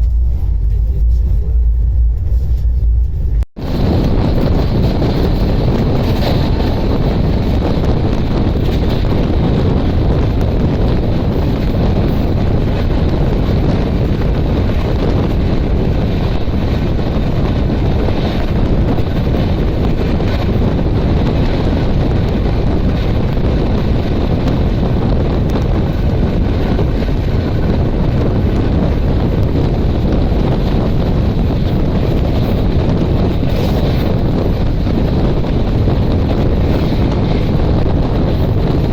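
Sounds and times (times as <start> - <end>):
moving train running noise: 0.0 - 38.9
wind buffeting microphone: 0.0 - 38.9.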